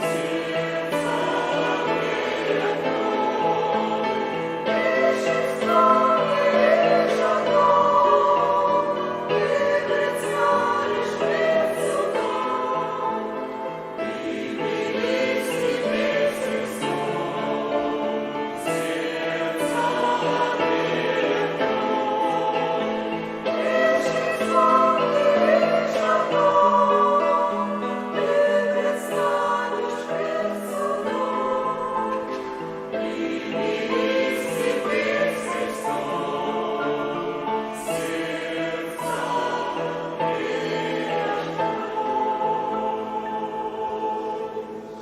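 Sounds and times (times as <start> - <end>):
choir singing a hymn: 0.0 - 45.0.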